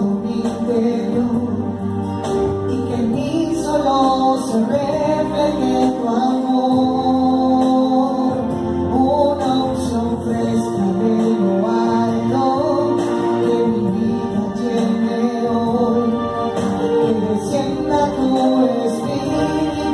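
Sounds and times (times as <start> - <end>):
electronic keyboard chords: 0.0 - 19.9
woman singing into microphone: 2.6 - 19.9.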